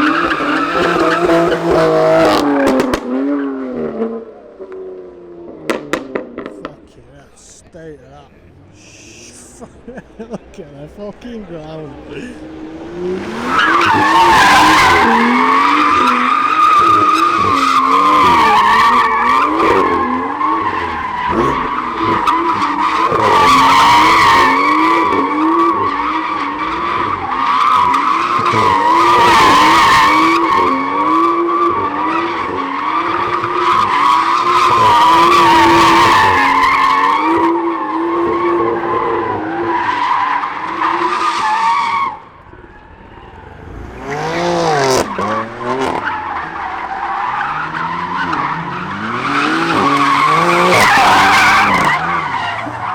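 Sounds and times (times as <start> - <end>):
tyres squealing: 0.0 - 2.4, 6.6 - 52.9
car engine revving: 0.0 - 52.9.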